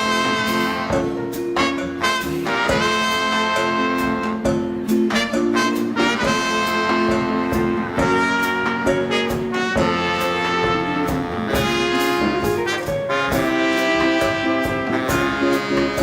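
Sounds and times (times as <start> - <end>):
steady drum beat: 0.0 - 16.0
swing band horns: 0.0 - 16.0.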